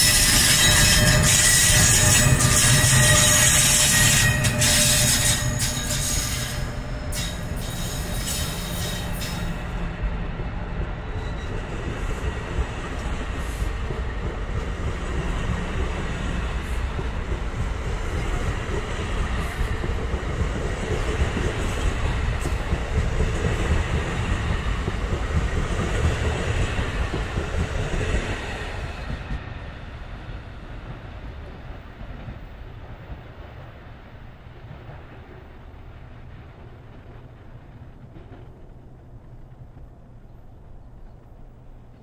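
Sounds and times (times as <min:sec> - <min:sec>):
train passing rumble: 0:00.0 - 0:42.0.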